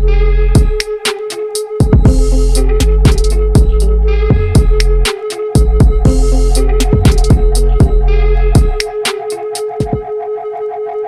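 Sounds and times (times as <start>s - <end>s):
electronic music with drum beat: 0.0s - 10.3s.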